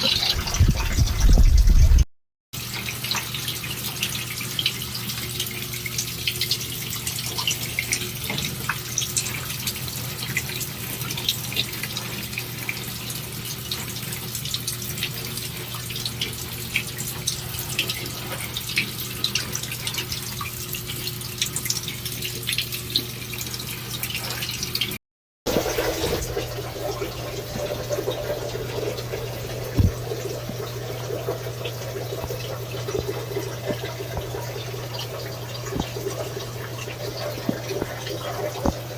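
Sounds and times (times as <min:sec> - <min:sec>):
shower water running and splattering: 0:00.0 - 0:02.0, 0:02.6 - 0:38.9.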